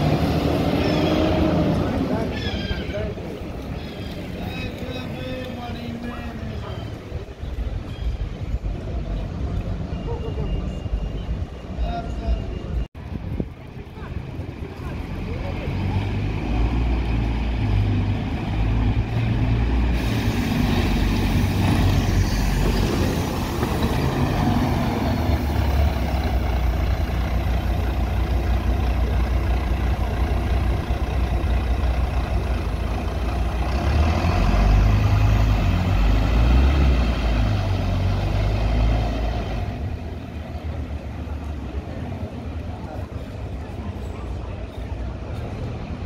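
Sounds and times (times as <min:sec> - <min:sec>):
bus engine rumbling past: 0:00.0 - 0:46.0.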